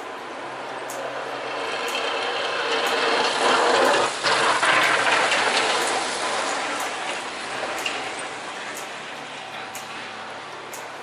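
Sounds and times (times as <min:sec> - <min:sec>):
vehicle passing on slushy street: 0:00.0 - 0:11.0.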